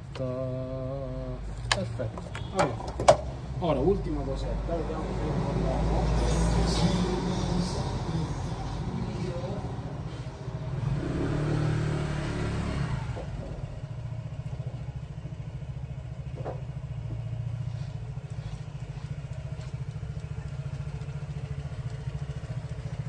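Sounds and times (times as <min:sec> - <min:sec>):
engine idling: 0:00.0 - 0:11.0, 0:13.0 - 0:23.0.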